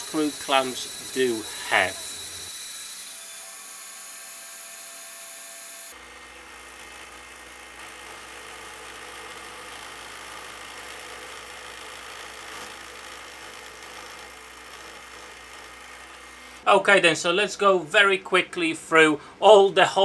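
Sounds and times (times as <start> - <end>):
bandsaw cutting: 0.0 - 16.7
drill press boring into resin: 0.0 - 16.7.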